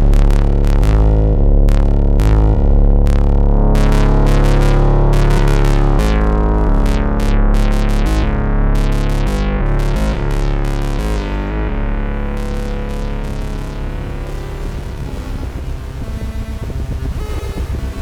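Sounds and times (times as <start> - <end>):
synthesizer bass line: 0.0 - 18.0
synthesizer sequenced short notes: 0.0 - 18.0.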